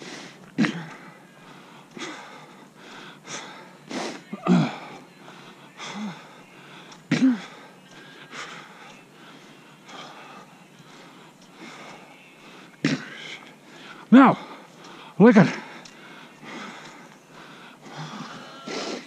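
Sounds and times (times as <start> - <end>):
heavy breathing while running: 0.0 - 19.0.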